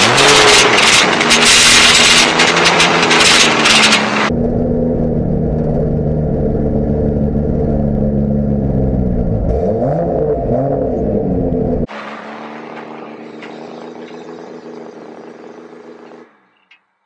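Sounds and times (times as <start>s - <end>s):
car engine droning: 0.0s - 16.9s.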